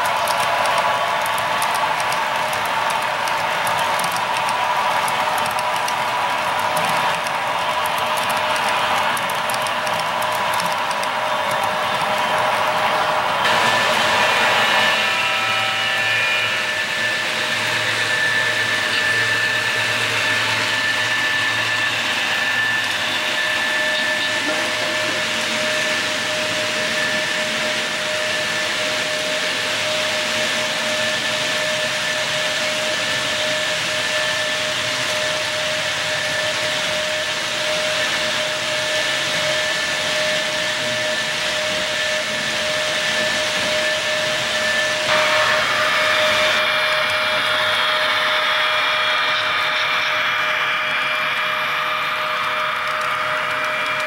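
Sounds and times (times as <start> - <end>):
model train rolling on track: 0.0 - 54.0.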